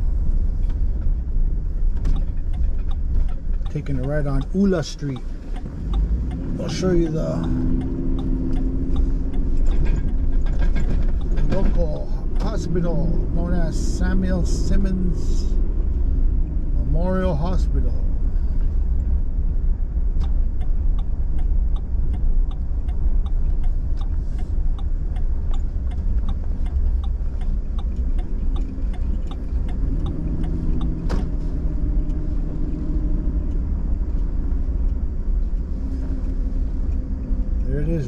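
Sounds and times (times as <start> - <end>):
car engine and road noise: 0.0 - 38.0
even ticking: 1.8 - 38.0.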